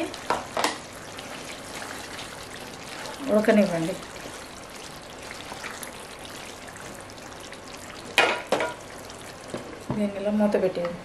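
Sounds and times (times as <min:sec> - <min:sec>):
curry sizzling with pops: 0:00.0 - 0:11.0.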